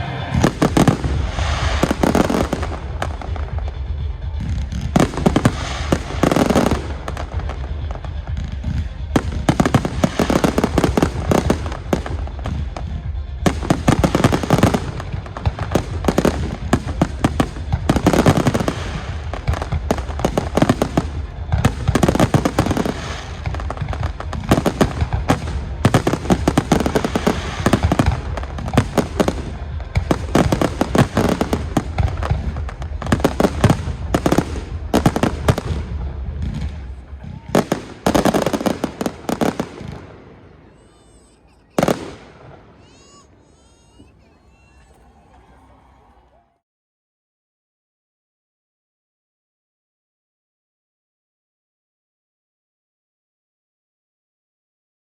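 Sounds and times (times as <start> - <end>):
fireworks bangs and crackling: 0.0 - 45.4
music playing: 0.0 - 46.6.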